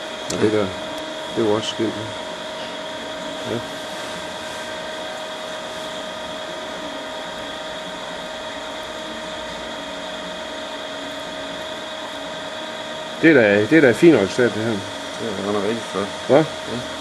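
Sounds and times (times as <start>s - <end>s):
dicing machine humming: 0.0s - 17.0s
machine high whine: 0.0s - 17.0s.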